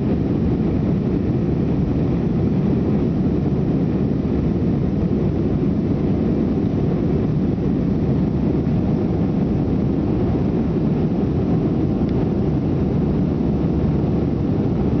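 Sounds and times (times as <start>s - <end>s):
jet engine drone in cabin: 0.0s - 15.0s.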